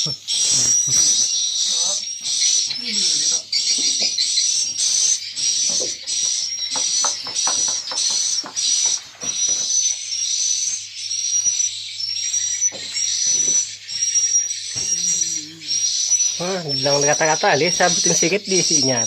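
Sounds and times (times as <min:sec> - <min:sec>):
swiftlets twittering: 0:00.0 - 0:19.0.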